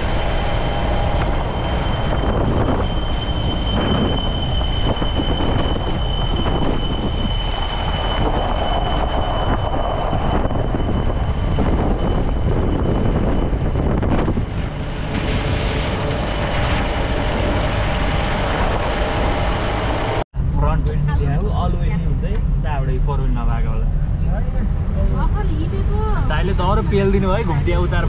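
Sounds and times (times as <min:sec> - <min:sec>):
thin high whine: 0:00.0 - 0:25.4
car engine rumbling: 0:00.0 - 0:28.0.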